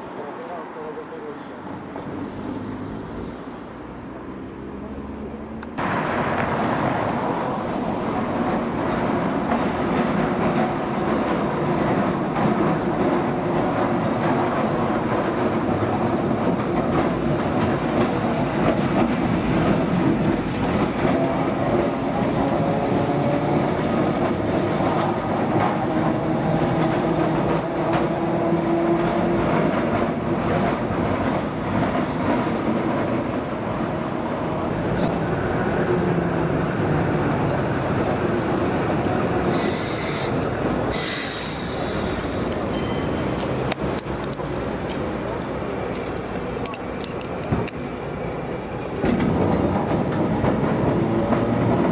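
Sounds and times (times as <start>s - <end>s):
tram rolling rumble: 0.0s - 51.9s.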